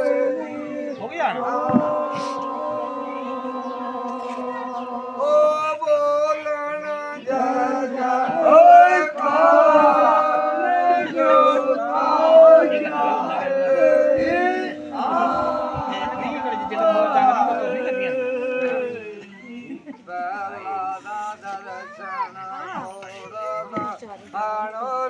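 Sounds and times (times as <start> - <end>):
men singing unaccompanied: 0.0 - 21.7, 22.4 - 25.0.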